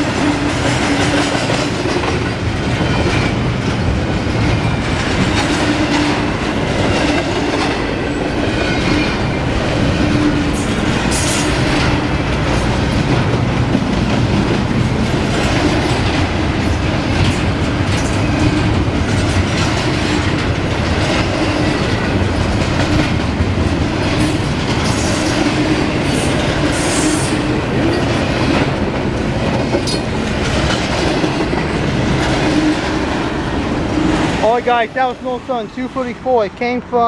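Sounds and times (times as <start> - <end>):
clickety-clack over rail joints: 0.0 - 37.0
train wheels rumbling on rails: 0.0 - 37.0.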